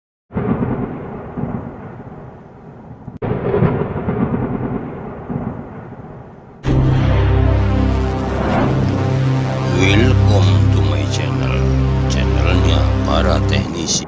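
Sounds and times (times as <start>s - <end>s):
thunder claps rumbling: 0.3s - 14.0s.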